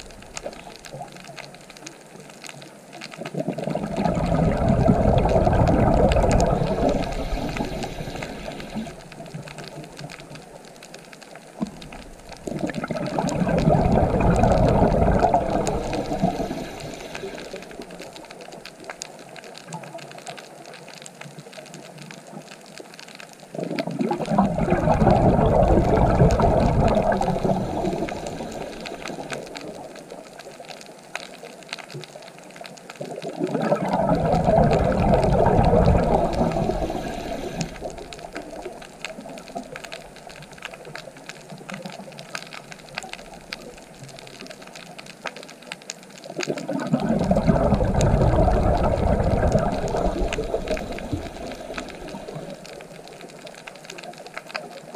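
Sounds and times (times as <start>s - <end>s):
quiet hiss: 0.0s - 54.9s
underwater exhaled bubbles: 0.0s - 54.9s.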